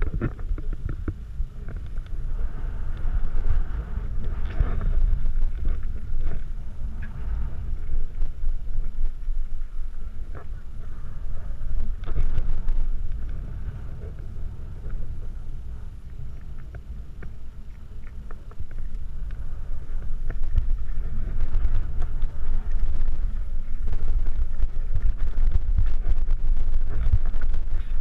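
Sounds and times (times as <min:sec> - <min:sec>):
bike tyres rumbling on gravel: 0:00.0 - 0:28.0
wind buffeting microphone: 0:00.0 - 0:28.0.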